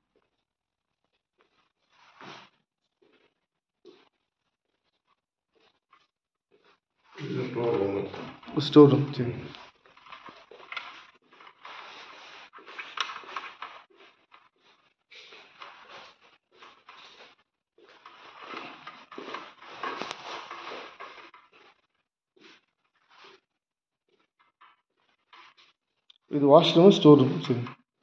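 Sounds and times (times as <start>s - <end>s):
rustling and shuffling of phone: 0.0s - 28.0s.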